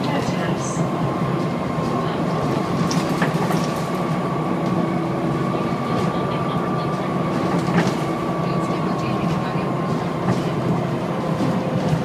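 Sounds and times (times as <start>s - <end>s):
bus engine rumble with whine: 0.0s - 12.0s.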